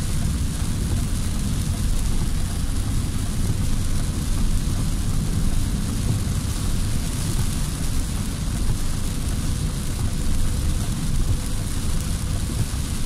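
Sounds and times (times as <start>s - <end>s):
car engine and road rumble: 0.0s - 13.0s
rain and wet tyres hissing: 0.0s - 13.0s.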